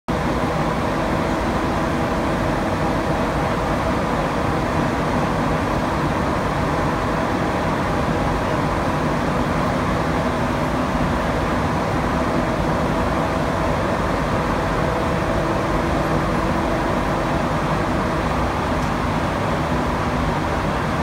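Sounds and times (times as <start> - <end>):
metro car rumble and hiss: 0.1 - 21.0.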